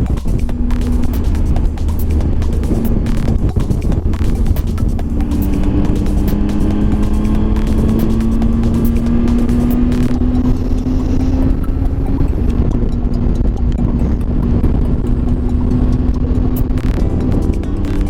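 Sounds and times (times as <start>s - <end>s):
motorcycle engine cruising: 0.0s - 18.0s
road and wind noise: 0.0s - 18.0s.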